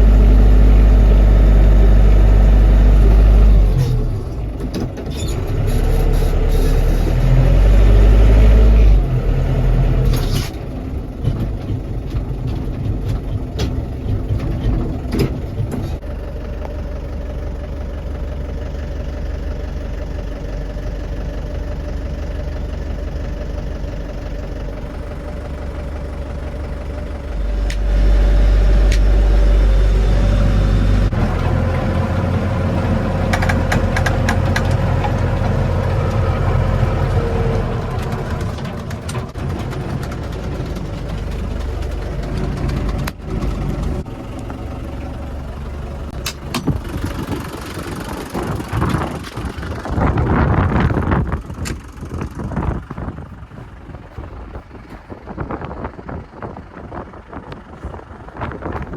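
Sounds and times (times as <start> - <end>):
tractor diesel engine working: 0.0 - 58.9.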